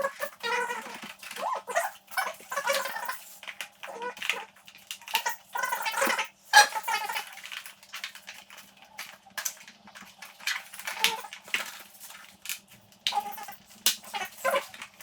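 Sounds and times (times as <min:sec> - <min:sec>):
tools and parts clicking: 0:00.0 - 0:15.0.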